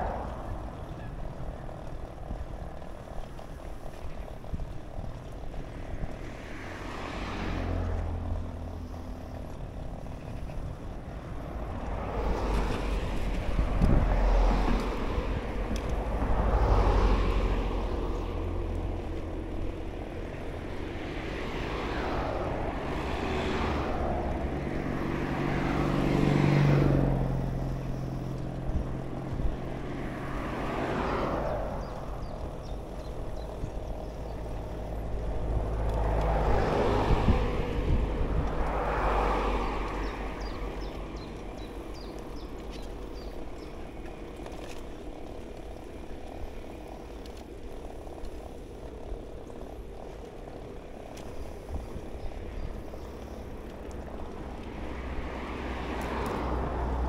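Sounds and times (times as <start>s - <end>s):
cars passing: 0.0s - 57.0s
wind rumble on microphone: 0.0s - 57.0s.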